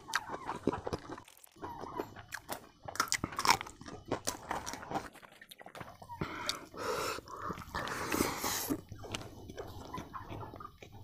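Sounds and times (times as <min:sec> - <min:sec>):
man chewing and lip smacking: 0:00.0 - 0:11.0.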